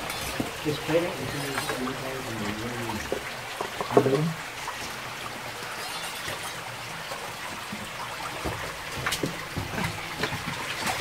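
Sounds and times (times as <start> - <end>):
stream trickling over rock: 0.0 - 11.0.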